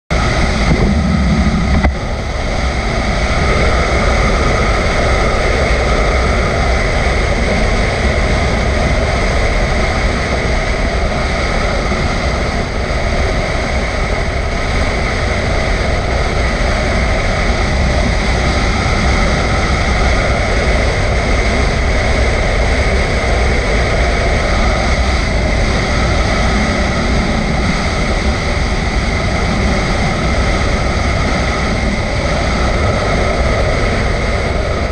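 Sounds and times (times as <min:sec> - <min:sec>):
motorcycle engine: 0:00.1 - 0:34.9
road noise: 0:00.1 - 0:34.9
wind rush on microphone: 0:00.1 - 0:34.9.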